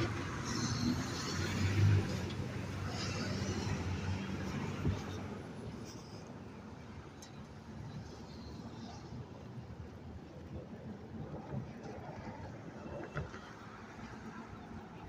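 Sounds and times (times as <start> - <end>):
wind rumbling on microphone: 0.0 - 6.4, 8.6 - 15.0
street traffic noise: 0.0 - 15.0.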